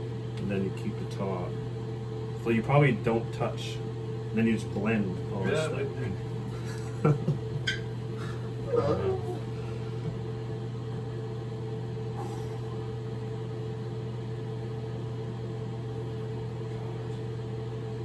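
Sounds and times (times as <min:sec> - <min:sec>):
machine hum with buzzing tone: 0:00.0 - 0:18.0.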